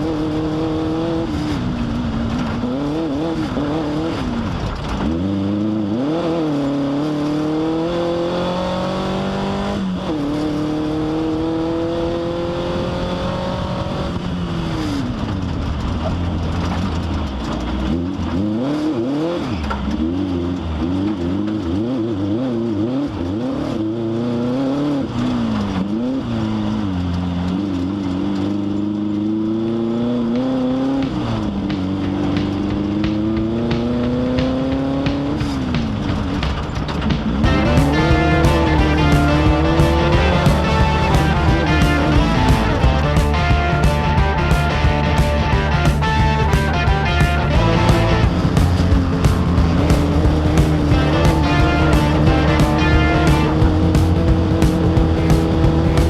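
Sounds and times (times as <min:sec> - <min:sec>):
race vehicle engine revving: 0:00.0 - 0:56.0.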